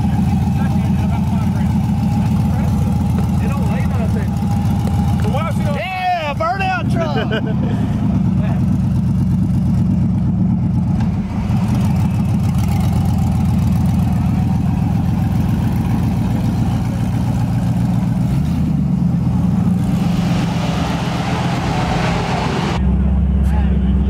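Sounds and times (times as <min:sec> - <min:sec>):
car engine: 0:00.0 - 0:23.4
truck engine idling rumble: 0:00.0 - 0:24.0.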